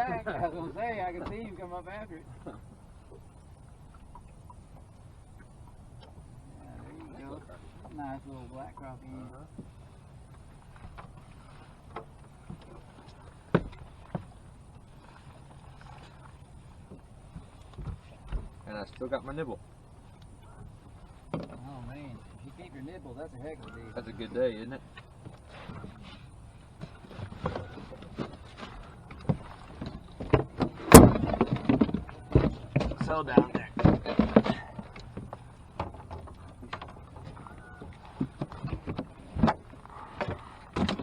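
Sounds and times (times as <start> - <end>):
knocks and bumps on a boat: 0.0 - 3.3, 7.0 - 19.5, 20.4 - 24.2, 24.9 - 41.0
low steady hum: 0.0 - 41.0.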